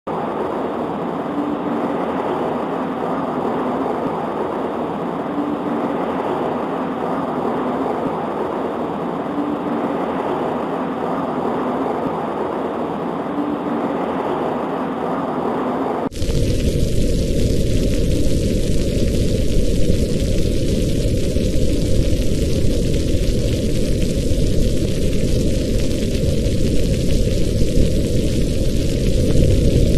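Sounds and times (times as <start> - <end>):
deep rumble: 0.1 - 29.9
heavy rain on window glass: 0.1 - 29.9.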